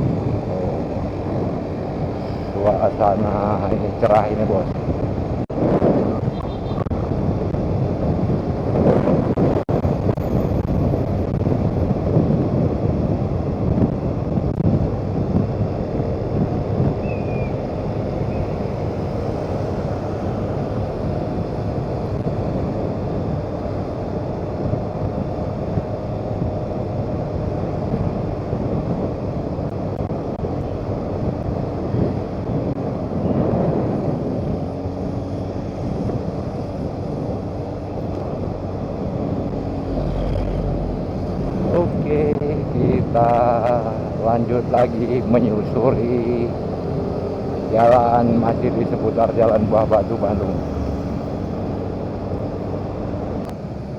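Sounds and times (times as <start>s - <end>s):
motorcycle engine hum: 0.0s - 53.9s
road noise: 0.0s - 53.9s
wind rushing over microphone: 0.0s - 53.9s.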